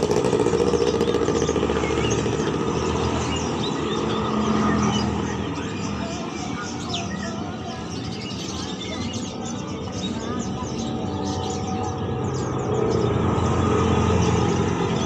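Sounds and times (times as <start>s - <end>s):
caged birds chirping: 0.0s - 15.0s
vehicle engine rumble: 0.0s - 15.0s.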